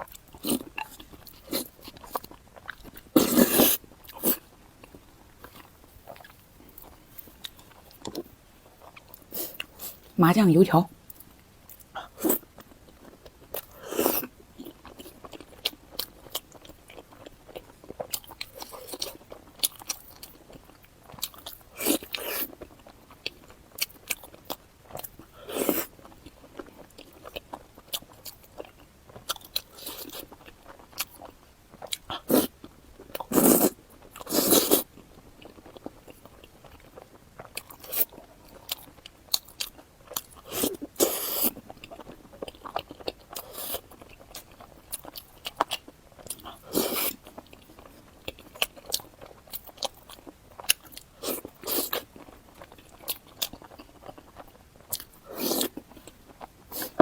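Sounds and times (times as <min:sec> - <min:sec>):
soft chewing: 0:00.0 - 0:10.2, 0:10.8 - 0:57.0.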